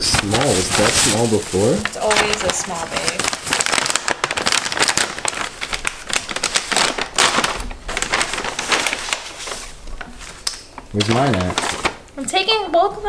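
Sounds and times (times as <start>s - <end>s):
plastic and paper bags rustling: 0.0s - 13.0s.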